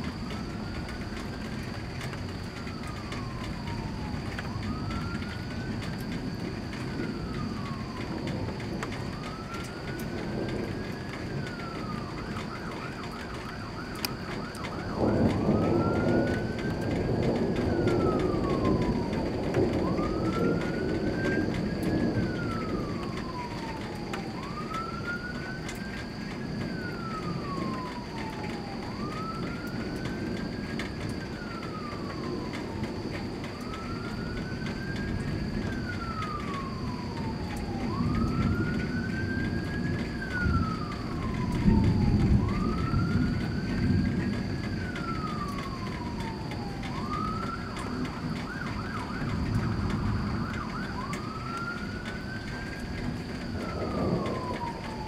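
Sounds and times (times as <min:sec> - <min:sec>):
siren wailing: 0:00.0 - 0:55.0
thunder rumble: 0:00.0 - 0:55.0.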